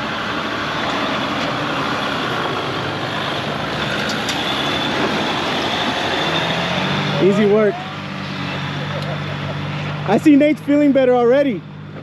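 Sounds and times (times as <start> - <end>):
constant rushing noise: 0.0 - 12.0
truck engine running: 0.0 - 12.0.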